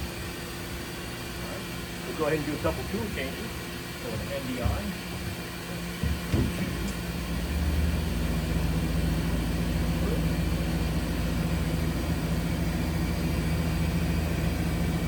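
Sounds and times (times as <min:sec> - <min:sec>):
machining center mechanical hum: 0:00.0 - 0:15.0.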